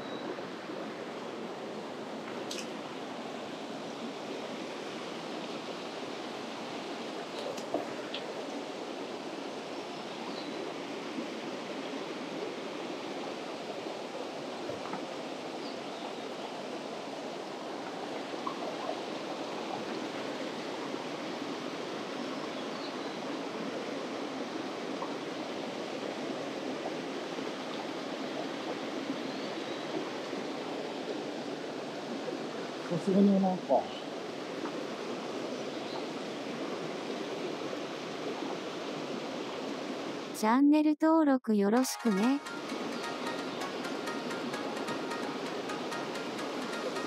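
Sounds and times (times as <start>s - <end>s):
stream rushing over rocks: 0.0s - 40.4s.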